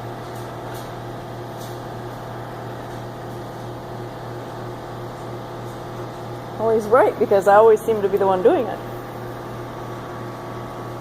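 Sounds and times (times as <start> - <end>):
shop equipment humming: 0.0 - 11.0.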